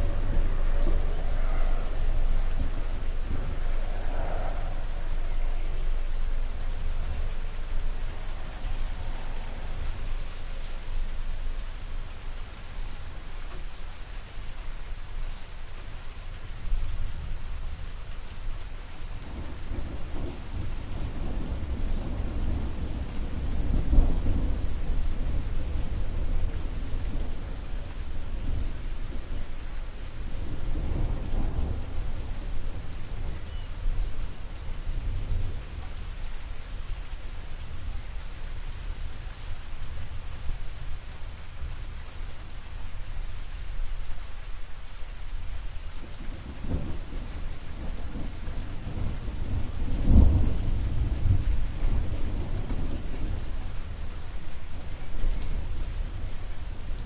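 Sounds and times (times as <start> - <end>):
rain falling: 0.0 - 57.0
thunder rumbling: 0.0 - 57.0.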